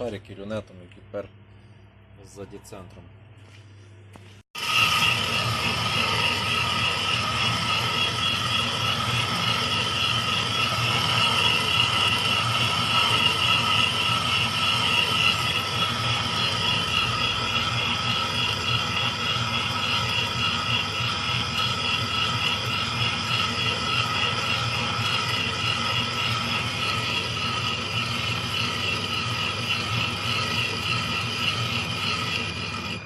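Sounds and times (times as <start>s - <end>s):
high wavering cutting whine: 4.6s - 33.0s
metal lathe humming: 4.6s - 33.0s.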